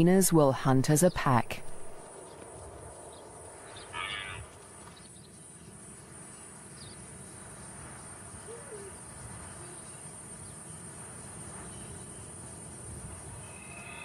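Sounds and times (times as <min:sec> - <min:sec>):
crickets chirping chorus: 0:00.6 - 0:14.0.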